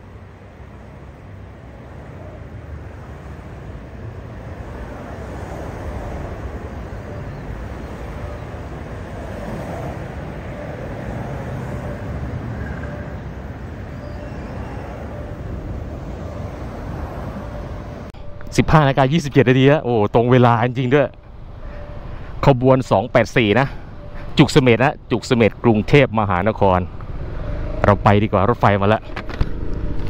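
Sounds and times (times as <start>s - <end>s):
motorcycles and cars rumbling: 0.0s - 18.4s, 20.3s - 30.0s.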